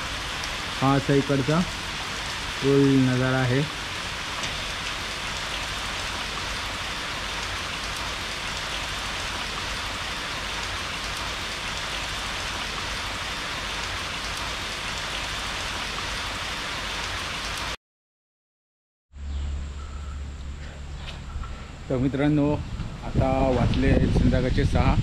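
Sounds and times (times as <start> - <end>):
heavy rain pouring: 0.0 - 17.8, 21.7 - 25.0.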